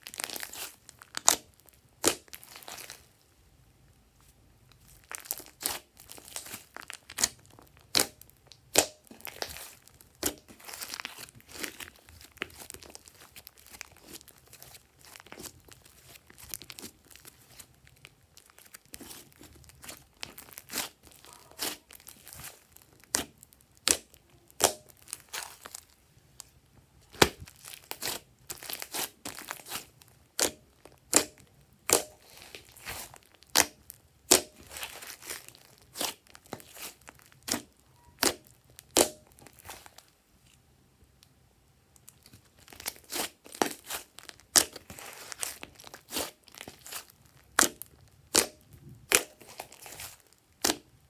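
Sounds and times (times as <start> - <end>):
hands squishing slime: 0.0 - 3.1, 4.8 - 26.0, 27.0 - 40.1, 42.0 - 51.0.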